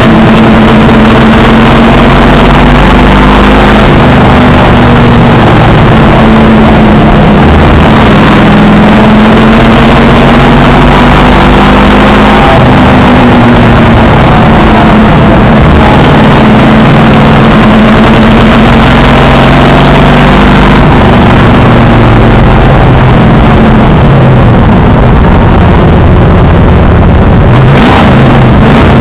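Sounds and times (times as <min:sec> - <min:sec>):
race car engine running hard: 0:00.0 - 0:29.0.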